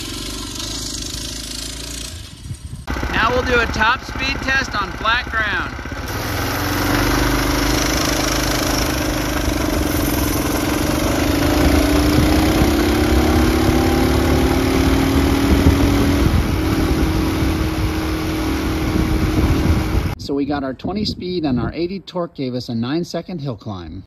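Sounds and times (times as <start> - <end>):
minibike engine at full throttle: 0.0 - 20.2.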